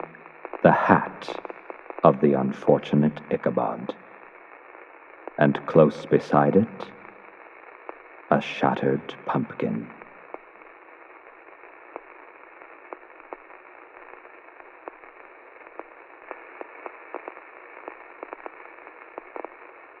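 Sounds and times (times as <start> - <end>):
radio static hiss: 0.0 - 20.0
static crackles and pops: 0.0 - 20.0.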